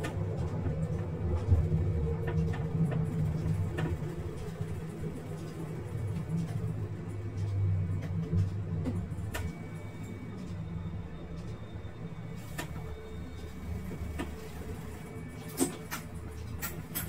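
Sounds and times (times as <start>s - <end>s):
diesel railcar humming: 0.0s - 17.0s.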